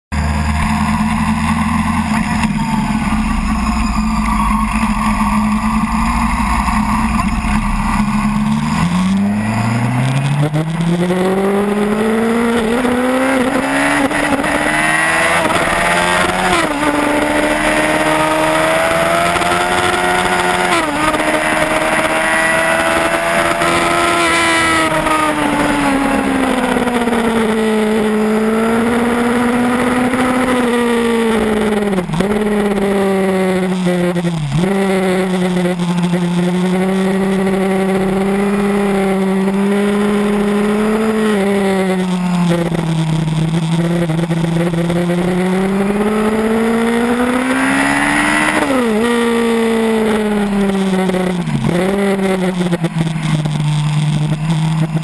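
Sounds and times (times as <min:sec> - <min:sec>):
motorcycle engine accelerating: 0:00.1 - 0:55.0.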